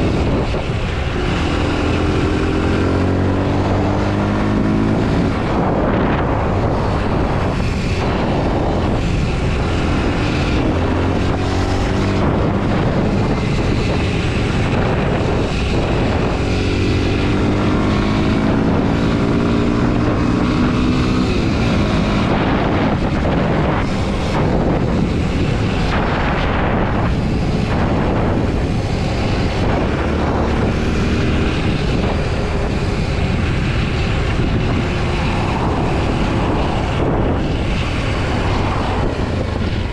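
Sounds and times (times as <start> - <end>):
motorcycle engine revving through gears: 0.0 - 39.9
wind rushing over microphone: 0.0 - 39.9.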